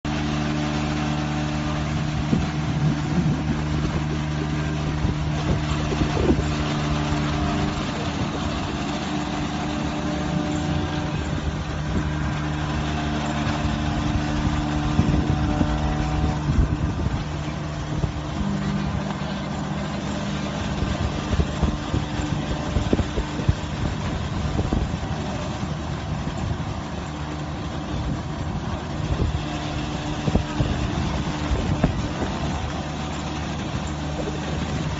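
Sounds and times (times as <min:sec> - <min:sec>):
hydraulic press motor hum: 0:00.0 - 0:34.9.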